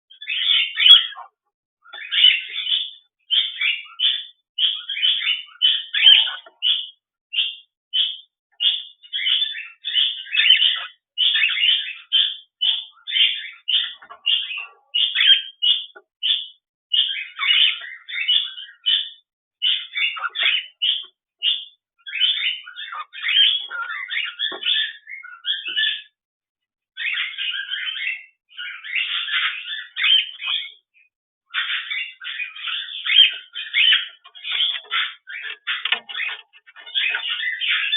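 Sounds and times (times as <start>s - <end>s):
bird chirping: 0.1s - 26.2s, 26.9s - 37.9s.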